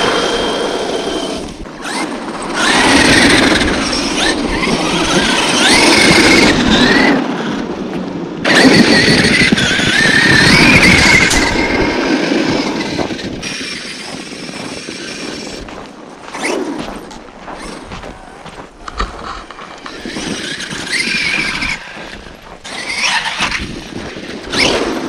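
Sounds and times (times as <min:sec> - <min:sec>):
electric motor whining: 0:00.0 - 0:07.6, 0:08.4 - 0:25.0.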